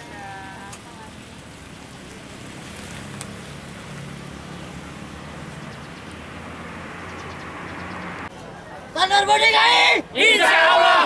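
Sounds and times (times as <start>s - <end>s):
tyre and traffic noise: 0.0s - 11.0s.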